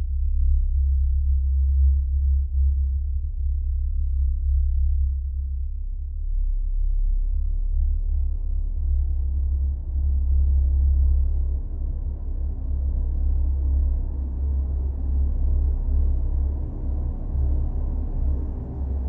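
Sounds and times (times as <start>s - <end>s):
deep bass drone: 0.0s - 19.0s.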